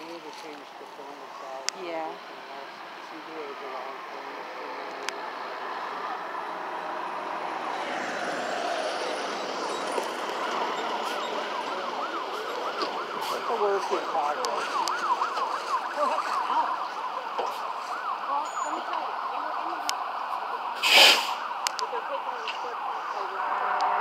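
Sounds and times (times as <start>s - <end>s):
emergency vehicle siren: 0.0s - 24.0s.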